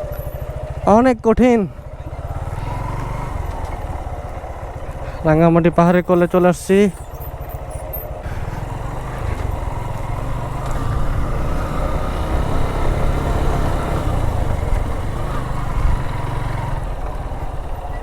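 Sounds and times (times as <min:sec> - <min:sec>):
motorcycle engine under load: 0:00.0 - 0:18.0.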